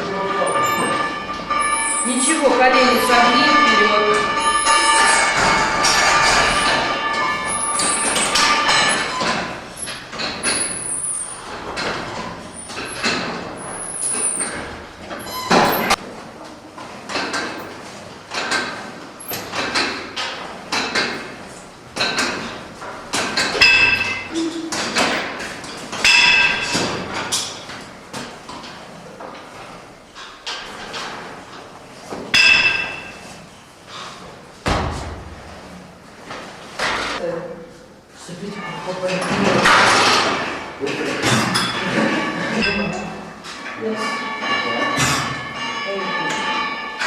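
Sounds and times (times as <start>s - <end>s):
weight equipment clanking: 0.0s - 16.1s, 17.0s - 29.4s, 30.1s - 35.3s, 38.4s - 47.0s.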